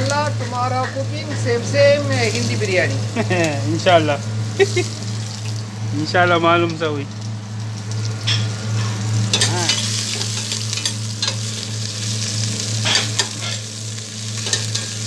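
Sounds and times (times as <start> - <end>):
food sizzling in a frying pan: 0.0 - 15.0
steady low hum: 0.0 - 15.0.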